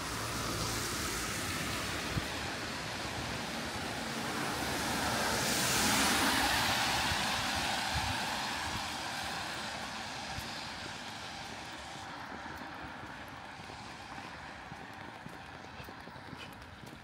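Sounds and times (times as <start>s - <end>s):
car tyres hissing on wet road: 0.0s - 12.9s, 13.5s - 15.0s
steady rain: 0.0s - 15.0s.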